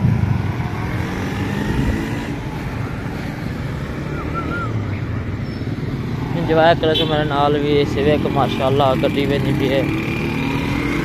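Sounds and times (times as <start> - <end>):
car passing: 0.0 - 11.0
motorcycle passing: 0.0 - 11.0.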